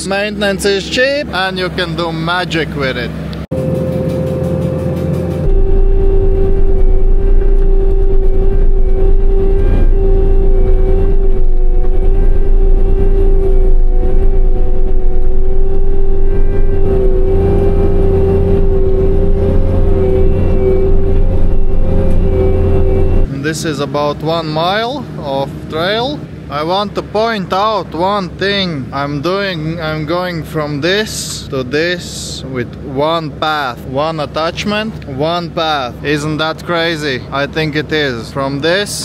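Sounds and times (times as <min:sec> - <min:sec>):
heavy machine drone: 0:00.0 - 0:39.0.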